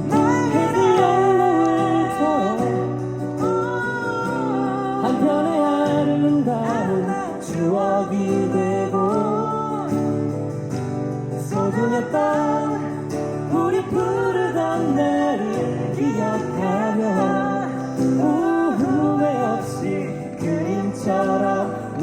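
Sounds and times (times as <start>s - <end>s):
strummed acoustic guitar: 0.0s - 22.0s
voices singing: 0.0s - 22.0s.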